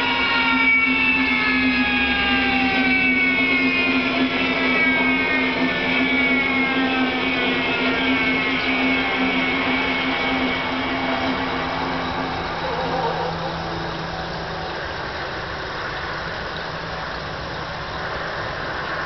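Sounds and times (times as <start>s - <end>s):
turbine whine falling in pitch: 0.0s - 19.0s
steady low hum: 1.1s - 19.0s.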